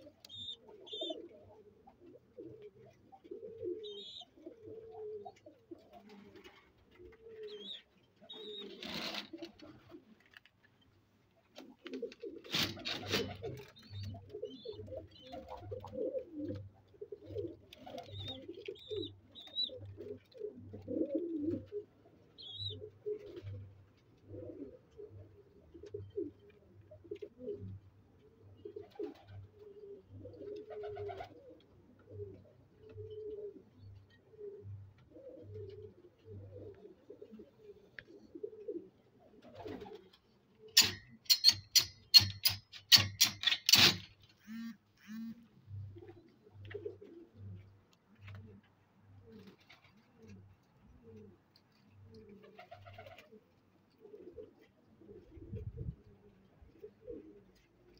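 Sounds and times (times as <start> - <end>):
pigeons cooing: 0.0 - 10.2, 11.5 - 57.9.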